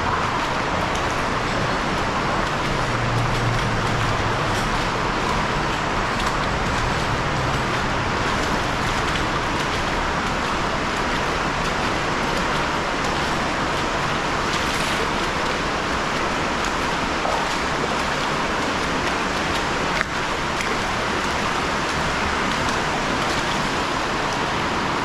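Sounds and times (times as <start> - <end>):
creek water flowing over rocks: 0.0 - 25.0.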